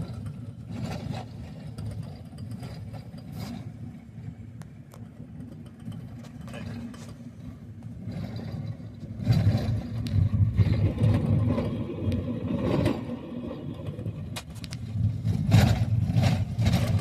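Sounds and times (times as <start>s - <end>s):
vehicle engine hum: 2.5s - 17.0s.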